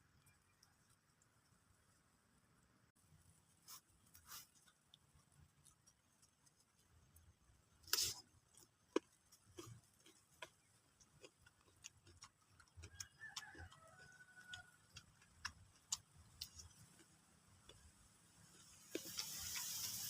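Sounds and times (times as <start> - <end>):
chewing crunches: 3.7 - 19.8.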